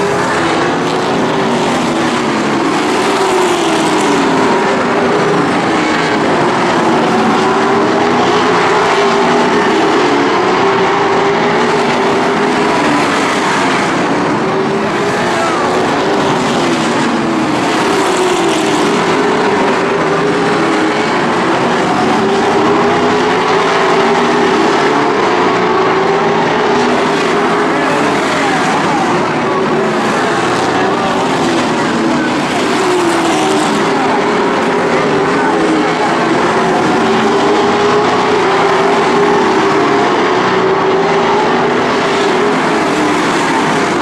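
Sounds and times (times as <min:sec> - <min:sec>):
race car engines passing: 0:00.0 - 0:44.0.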